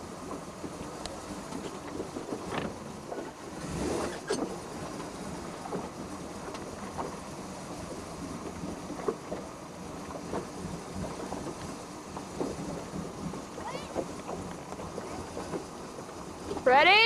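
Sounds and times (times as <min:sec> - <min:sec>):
motorboat engine running: 0:00.0 - 0:17.0
water splashing against hull: 0:00.0 - 0:17.0.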